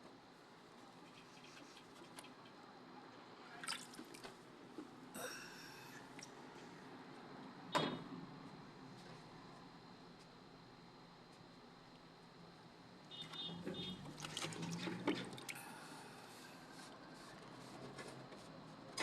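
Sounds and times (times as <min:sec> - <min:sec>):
faint steady background noise: 0:00.0 - 0:19.0.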